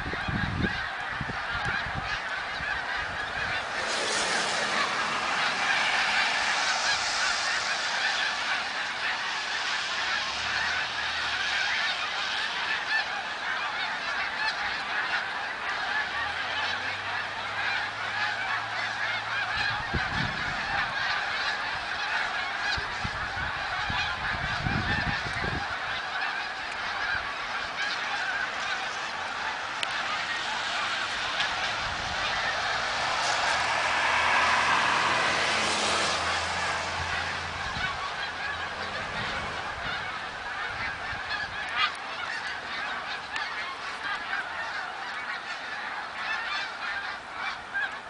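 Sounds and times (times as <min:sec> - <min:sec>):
geese honking: 0:00.0 - 0:48.0.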